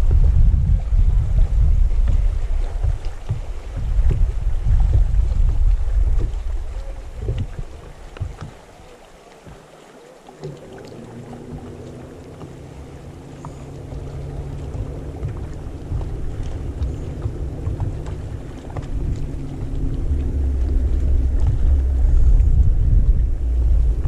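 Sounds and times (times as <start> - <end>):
deep rumble: 0.0 - 8.8, 10.4 - 24.0
boat motor humming: 0.0 - 24.0.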